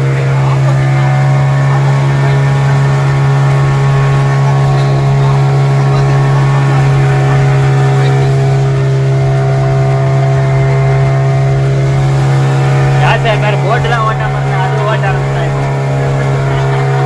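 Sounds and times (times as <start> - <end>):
outboard motor drone: 0.0 - 17.0.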